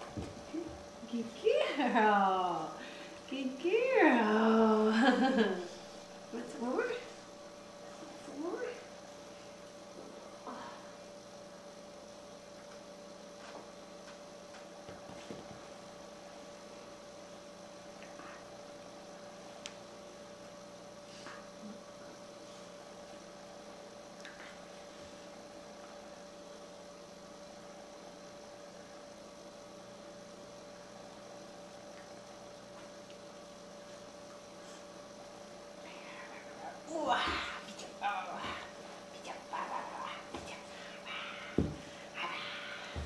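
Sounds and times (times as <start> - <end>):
faint electrical hum: 0.0 - 43.0.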